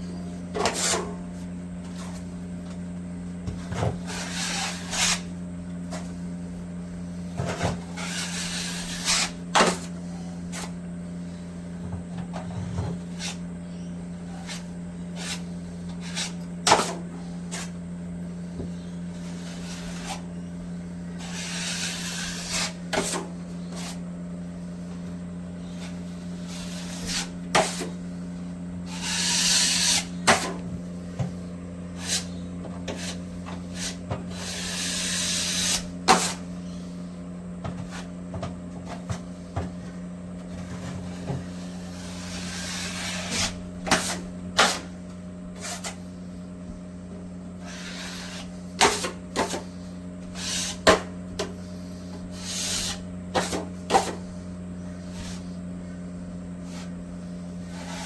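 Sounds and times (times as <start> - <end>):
steady low hum: 0.0 - 58.0
plastering tool scraping: 0.5 - 2.4, 3.4 - 6.3, 7.2 - 10.8, 12.2 - 13.5, 14.2 - 17.8, 19.1 - 20.5, 21.1 - 24.1, 24.8 - 37.0, 37.7 - 46.2, 47.5 - 55.6, 56.6 - 58.0.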